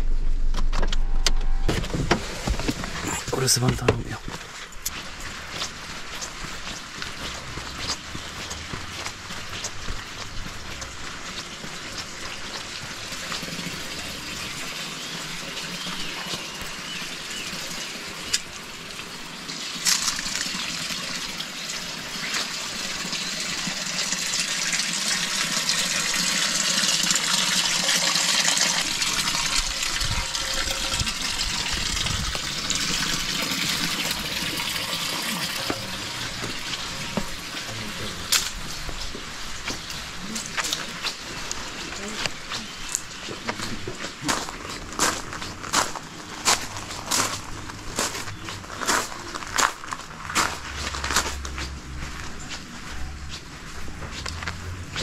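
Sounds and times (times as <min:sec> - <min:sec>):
rushing water: 0:02.2 - 0:55.0.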